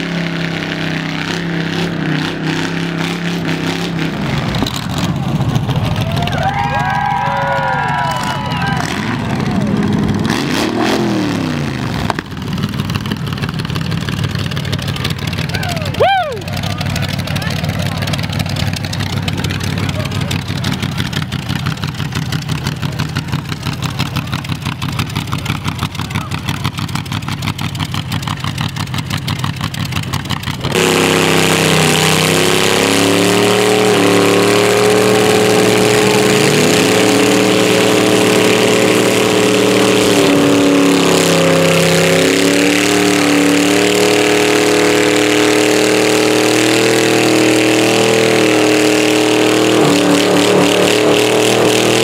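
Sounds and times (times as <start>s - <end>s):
car engine idling and revving: 0.0s - 52.0s
tire spinning on pavement: 0.0s - 52.0s.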